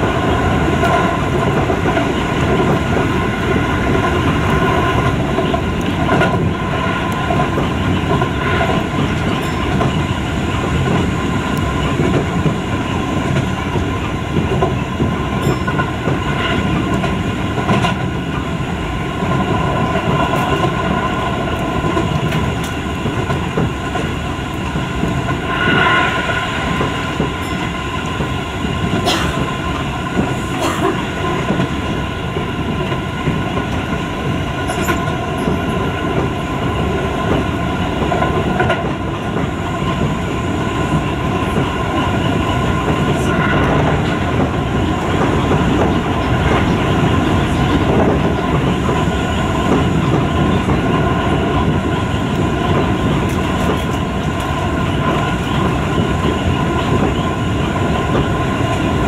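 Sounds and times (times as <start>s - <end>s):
wheels rumbling on rail: 0.0s - 59.0s
clacks over rail joints: 0.3s - 18.6s, 26.7s - 59.0s.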